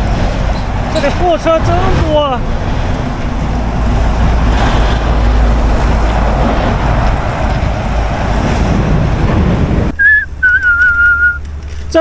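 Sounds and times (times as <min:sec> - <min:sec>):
heavy trucks passing: 0:00.0 - 0:12.0
road traffic rumble: 0:00.0 - 0:12.0
wind rushing on microphone: 0:00.0 - 0:12.0.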